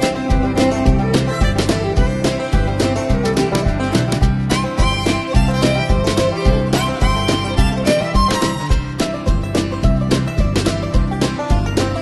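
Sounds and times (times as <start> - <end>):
upbeat country music: 0.0 - 12.0.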